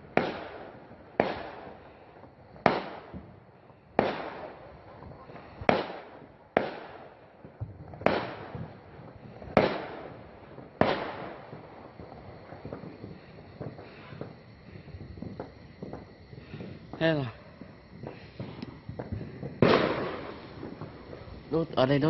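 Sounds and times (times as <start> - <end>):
fireworks bangs with echo: 0.0 - 22.0.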